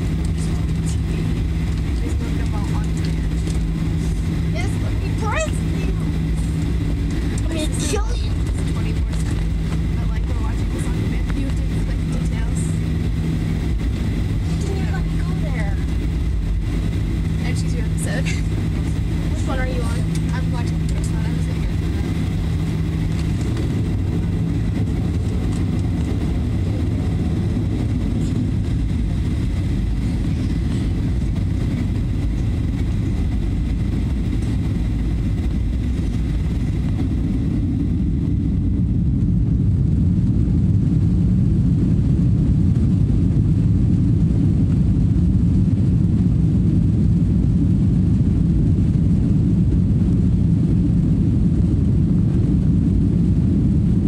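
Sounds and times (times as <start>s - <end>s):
faint jet engine whine: 0.0s - 54.0s
jet engines rumbling in cabin: 0.0s - 54.0s.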